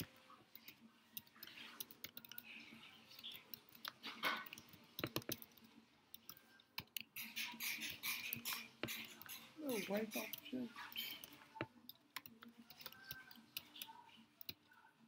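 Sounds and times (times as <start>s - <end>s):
computer keyboard typing: 0.0s - 14.6s.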